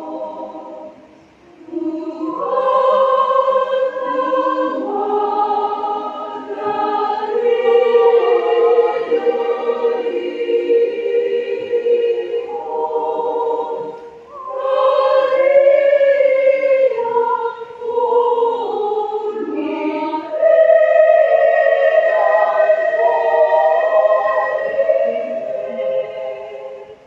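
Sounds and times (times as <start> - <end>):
women's choir singing a hymn: 0.0 - 27.0.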